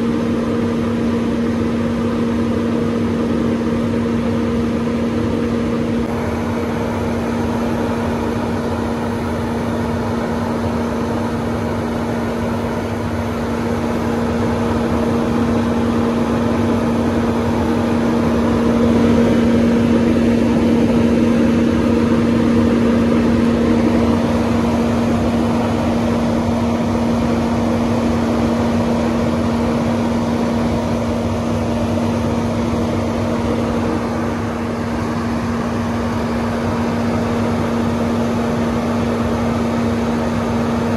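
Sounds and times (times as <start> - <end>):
grain dryer burner and fan: 0.0 - 40.9.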